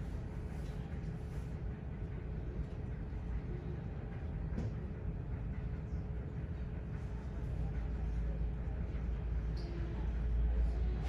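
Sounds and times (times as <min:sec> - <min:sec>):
airport terminal rumble: 0:00.0 - 0:11.0
faint constant hum: 0:00.0 - 0:11.0.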